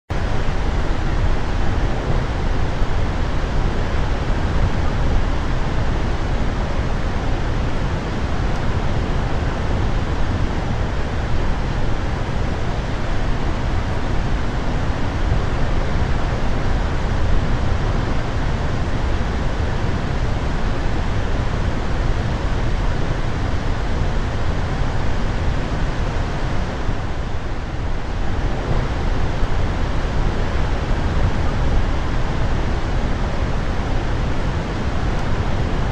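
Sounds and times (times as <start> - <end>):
waterfall deep rushing: 0.2 - 35.9.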